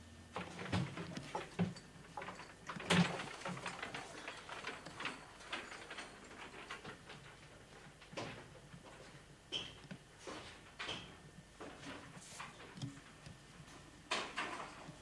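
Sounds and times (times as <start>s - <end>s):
objects knocking and clicking: 0.4s - 15.0s.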